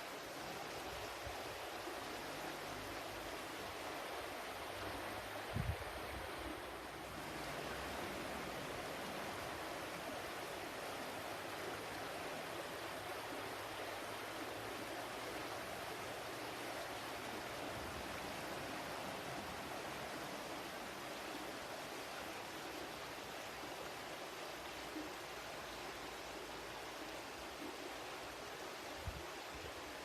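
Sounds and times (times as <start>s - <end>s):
water flowing: 0.0s - 30.0s.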